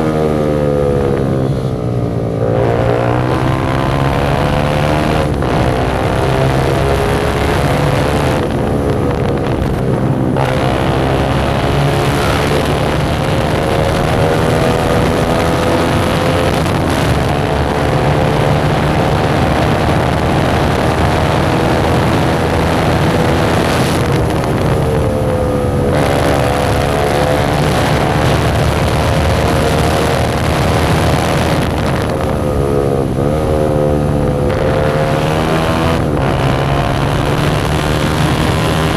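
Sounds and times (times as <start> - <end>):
unsilenced motorcycle engine revving: 0.0 - 38.9.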